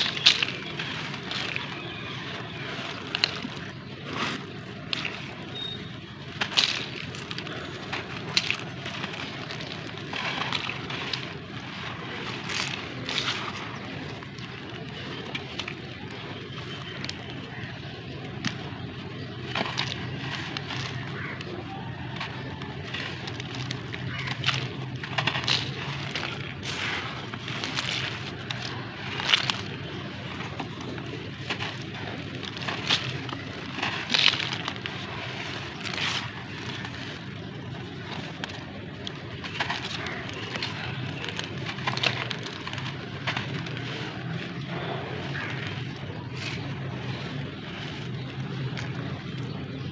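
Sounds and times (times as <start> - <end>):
sharp cracks: 0.0 - 49.8
low steady rumble: 0.0 - 49.9
sand crumbling and pouring: 0.0 - 49.9
sharp crunches: 0.0 - 49.9.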